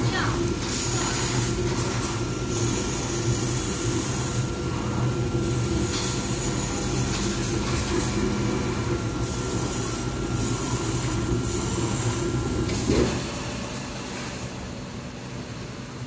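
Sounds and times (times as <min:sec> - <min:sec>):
cutting machine mechanical hum: 0:00.0 - 0:16.0.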